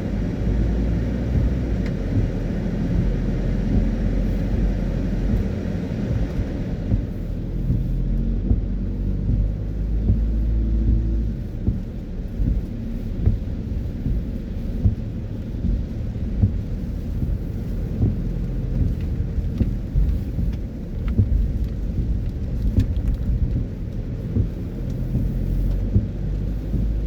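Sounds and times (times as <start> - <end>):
car engine and tyres rumbling: 0.0 - 27.0
tyres hissing on wet road: 0.0 - 27.0.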